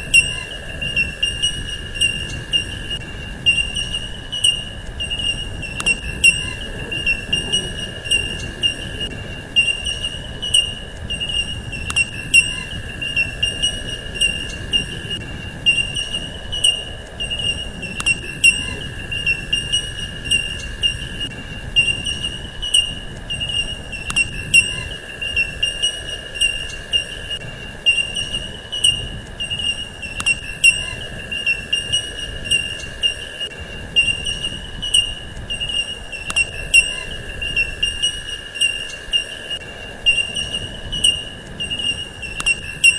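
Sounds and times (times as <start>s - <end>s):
faint ticks and pulses: 0.0s - 42.9s
insect chirring: 0.0s - 42.9s.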